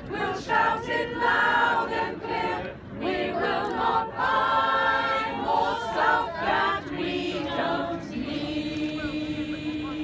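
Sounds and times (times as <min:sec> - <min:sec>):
unaccompanied choir singing: 0:00.0 - 0:10.0.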